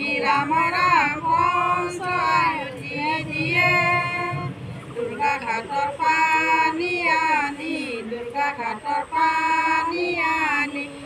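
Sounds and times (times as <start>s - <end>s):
woman singing slow melody: 0.0s - 11.0s.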